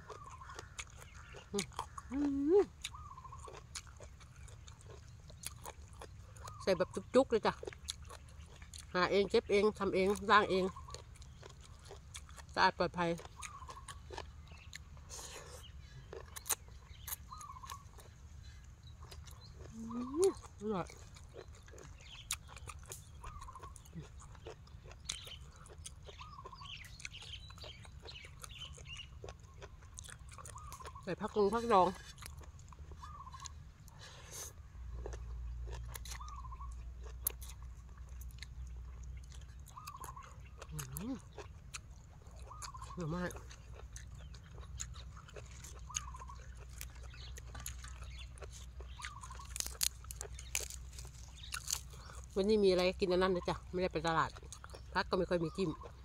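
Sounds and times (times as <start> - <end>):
chewing with crunchy clicks: 0.0 - 56.0
small birds chirping: 0.0 - 56.0.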